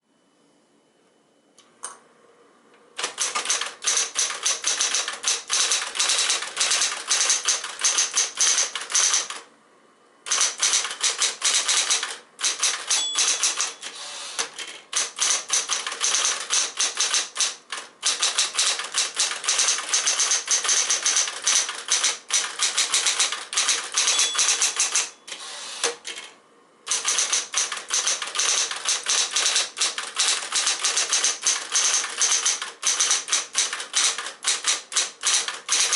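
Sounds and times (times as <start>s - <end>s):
electric typewriter typing: 3.0s - 9.5s, 10.3s - 26.3s, 26.9s - 35.9s.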